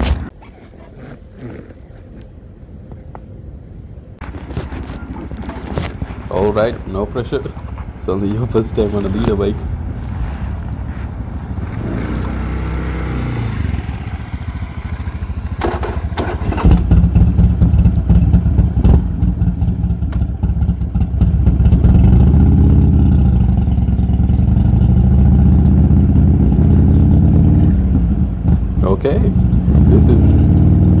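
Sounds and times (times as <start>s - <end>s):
motorcycle engine revving: 4.2s - 31.0s.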